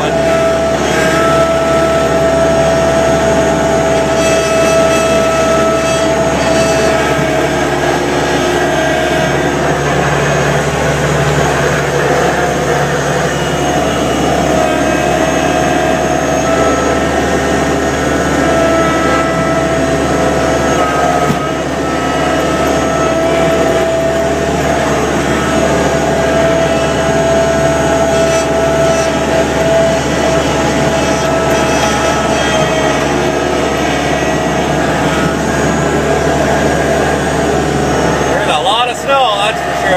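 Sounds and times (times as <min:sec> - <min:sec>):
skid steer engine under load: 0:00.0 - 0:39.9
steady machine whine: 0:00.0 - 0:39.9.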